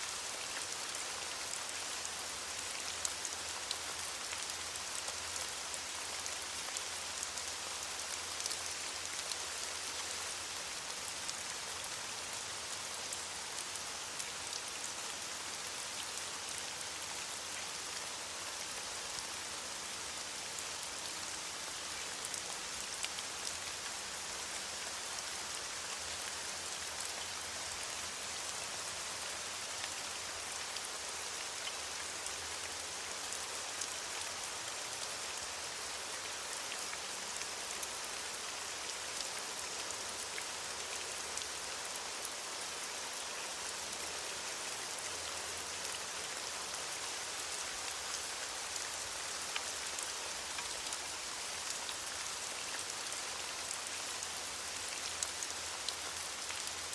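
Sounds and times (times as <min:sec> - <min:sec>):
rain falling on leaves: 0:00.0 - 0:56.9.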